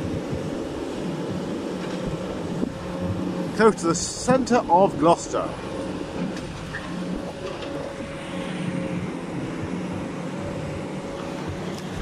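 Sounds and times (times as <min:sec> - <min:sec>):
excavator diesel engines droning: 0:00.0 - 0:12.0.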